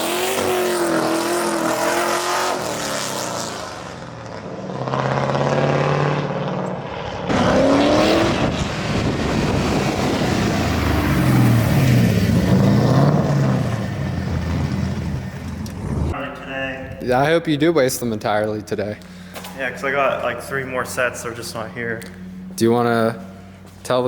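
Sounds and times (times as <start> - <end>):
car engine revving: 0.0 - 16.2, 19.0 - 23.7.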